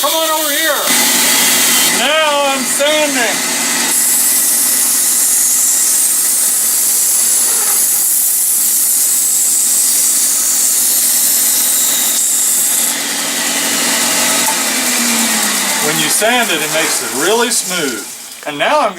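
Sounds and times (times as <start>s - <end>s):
power sander sanding wood: 0.0s - 18.9s.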